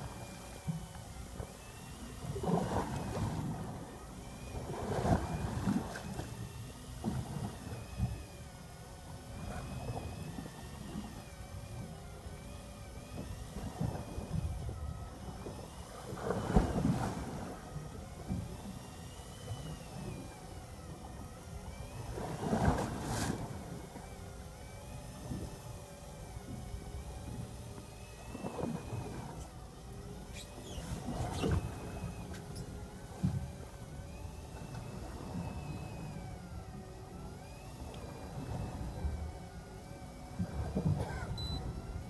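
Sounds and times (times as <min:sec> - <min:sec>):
faint wavering high whine: 0:00.0 - 0:42.0
water sloshing against boat hull: 0:00.0 - 0:42.0.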